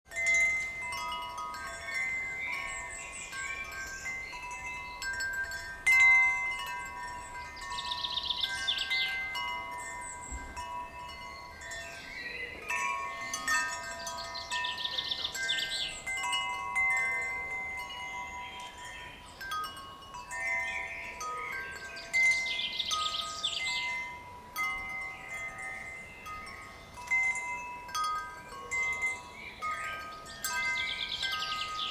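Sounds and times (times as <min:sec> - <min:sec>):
wind chime ringing: 0:00.1 - 0:31.9.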